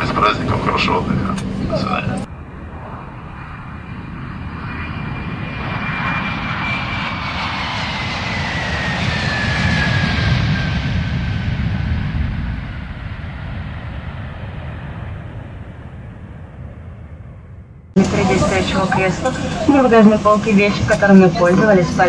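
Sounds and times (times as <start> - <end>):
jet aircraft passing: 0.0 - 22.0.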